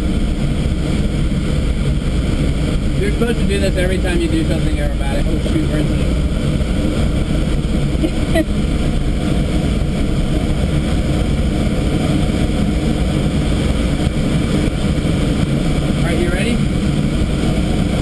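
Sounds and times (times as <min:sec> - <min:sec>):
airflow rushing around glider: 0:00.0 - 0:18.0.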